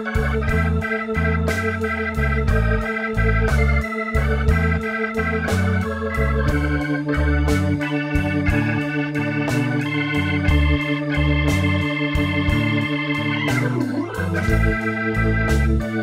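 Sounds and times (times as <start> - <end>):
bass line: 0.0 - 16.0
blues organ music: 0.0 - 16.0
steady beat: 0.0 - 16.0.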